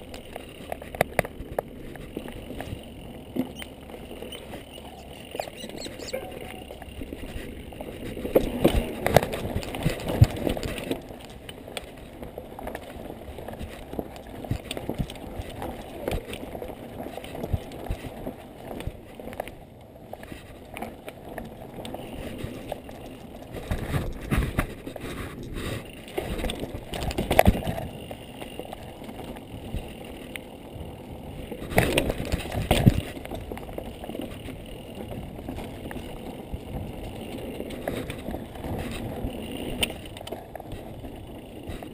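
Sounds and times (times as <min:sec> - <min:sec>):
bike knocking and rattling: 0:00.0 - 0:41.9.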